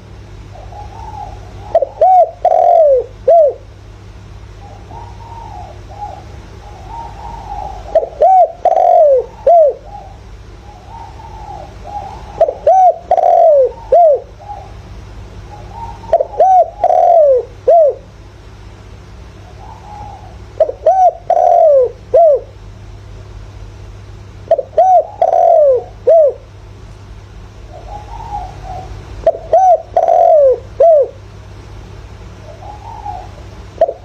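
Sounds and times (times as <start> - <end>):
fainter distant cooing: 0.0 - 3.7, 4.5 - 18.1, 19.3 - 22.6, 24.5 - 26.5, 27.6 - 31.3, 32.3 - 34.0
dove cooing: 0.0 - 3.8, 4.4 - 18.1, 19.3 - 22.6, 24.4 - 26.6, 27.6 - 31.3, 32.3 - 34.0
steady low hum: 0.0 - 34.0.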